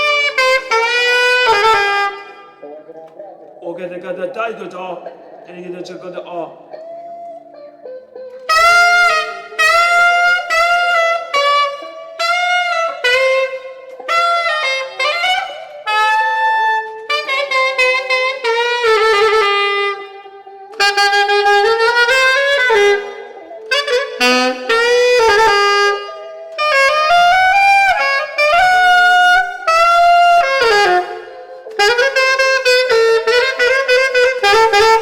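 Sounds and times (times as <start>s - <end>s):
solo saxophone: 0.0s - 3.3s, 6.5s - 35.0s.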